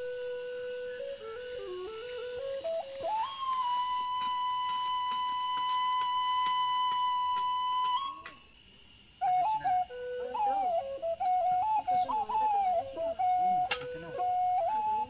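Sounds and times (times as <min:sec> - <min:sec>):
slow flute melody: 0:00.0 - 0:08.5, 0:09.2 - 0:15.0.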